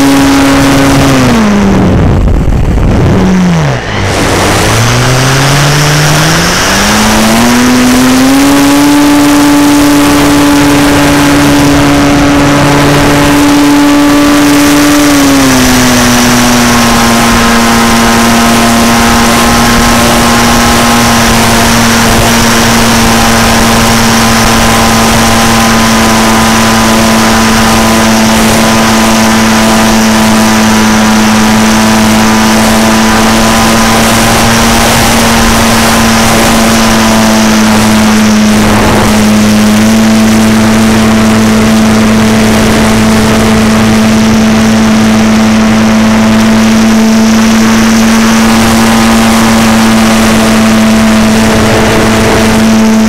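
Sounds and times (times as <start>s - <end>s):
electric motor and propeller: 0.0s - 53.0s.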